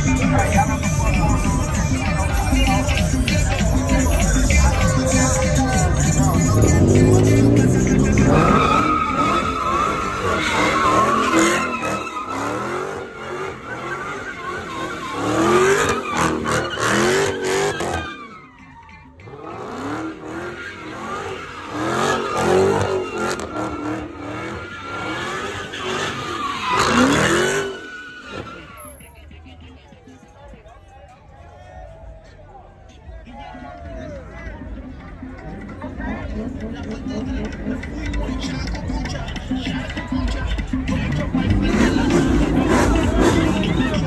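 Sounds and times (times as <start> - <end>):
car engine revving: 0.0 - 29.0, 34.8 - 44.0
tires squealing: 0.0 - 30.6, 31.5 - 44.0.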